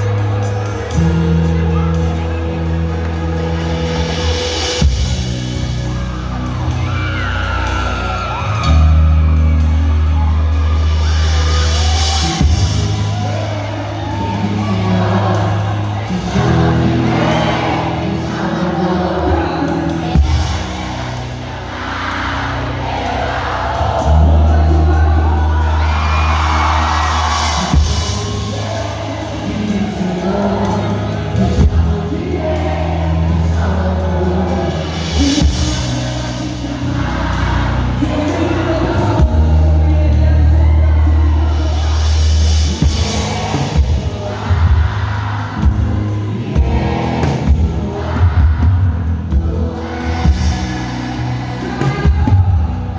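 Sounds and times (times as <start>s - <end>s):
person singing: 0.0s - 22.0s, 22.6s - 52.9s
drums: 0.0s - 52.9s
held bass notes: 0.0s - 52.9s.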